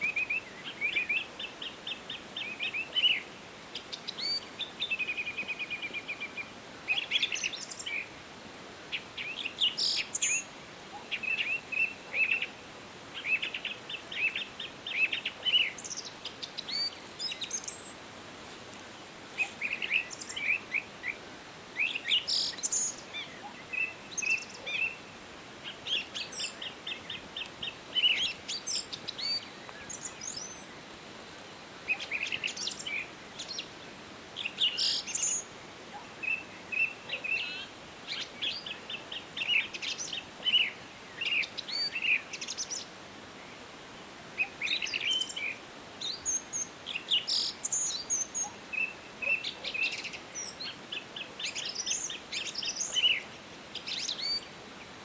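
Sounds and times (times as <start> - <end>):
faint background hiss: 0.0 - 55.0
songbirds trilling and chirping: 0.0 - 55.0.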